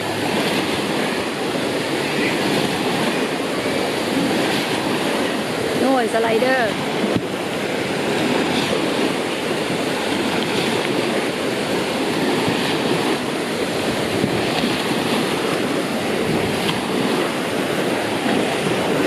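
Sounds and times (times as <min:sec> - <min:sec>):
waves breaking in a pool: 0:00.0 - 0:19.0.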